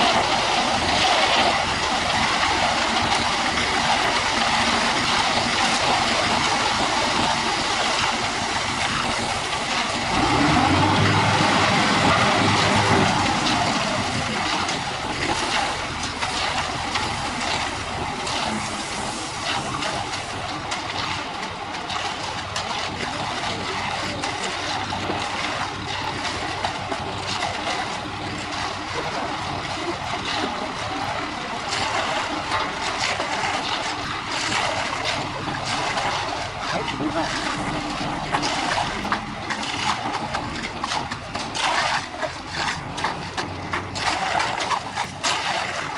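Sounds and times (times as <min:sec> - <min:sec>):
truck engine running: 0:00.0 - 0:45.9
wet concrete rushing and splashing: 0:00.0 - 0:45.9.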